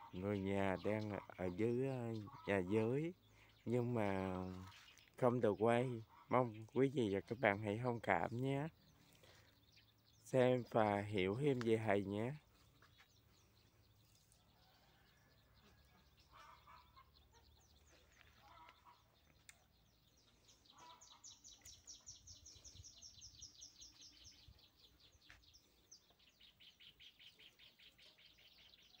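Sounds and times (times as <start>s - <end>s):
short lower bird calls: 0.0s - 29.0s.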